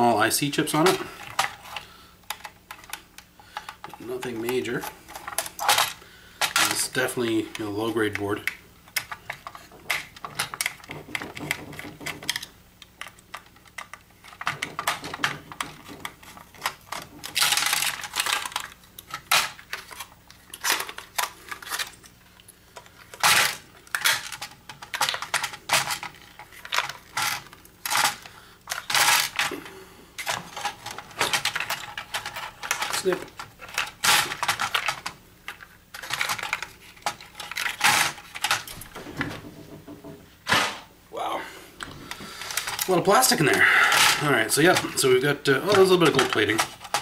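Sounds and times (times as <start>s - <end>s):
plastic parts clicking and rattling: 0.5s - 40.2s, 41.8s - 47.0s.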